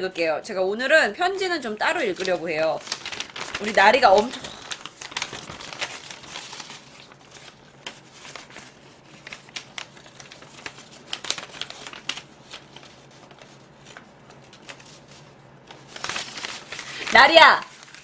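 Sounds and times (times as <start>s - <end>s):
paper rustling and crinkling: 1.4s - 18.0s.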